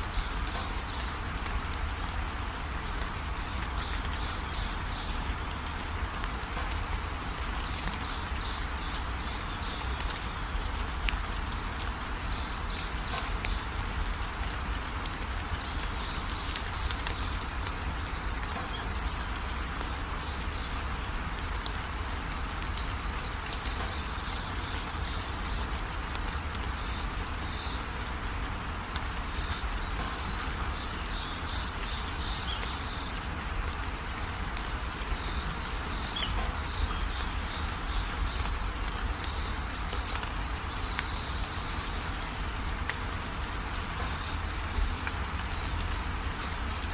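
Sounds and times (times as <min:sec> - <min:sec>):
steady rain hiss: 0:00.0 - 0:46.9
birds twittering: 0:06.0 - 0:46.9.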